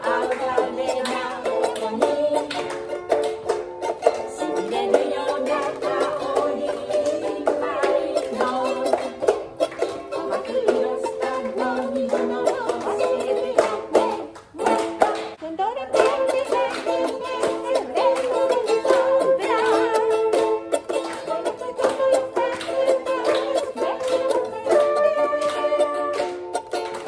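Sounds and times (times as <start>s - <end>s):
plucked string instrument strumming: 0.0s - 27.0s.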